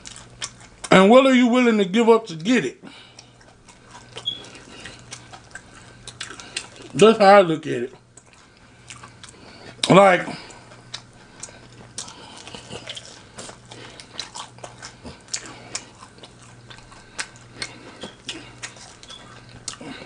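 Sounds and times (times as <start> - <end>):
person chewing food: 0.0 - 0.9, 2.8 - 20.0
low steady hum: 0.0 - 20.0.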